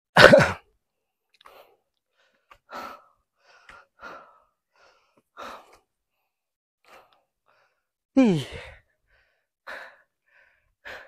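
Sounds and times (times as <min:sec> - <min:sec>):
heavy breathing: 0:01.4 - 0:11.0.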